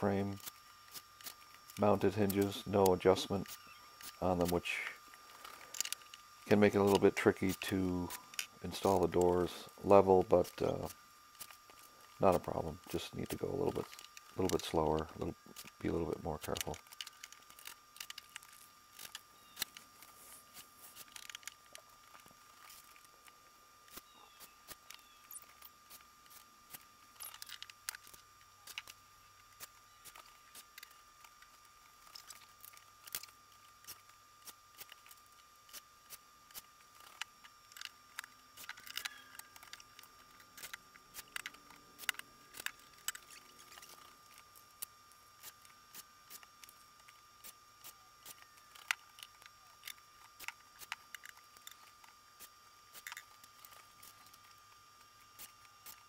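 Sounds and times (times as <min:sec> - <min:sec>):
faint high-pitched whine: 0:00.0 - 0:56.0.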